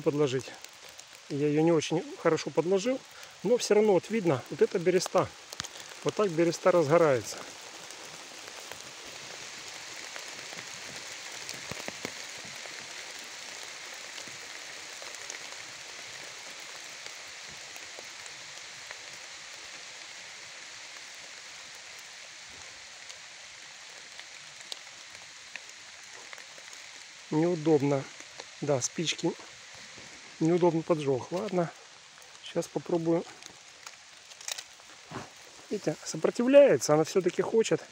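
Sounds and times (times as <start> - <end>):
bark crackling in fire: 0.0 - 37.9
rain pattering: 0.0 - 37.9.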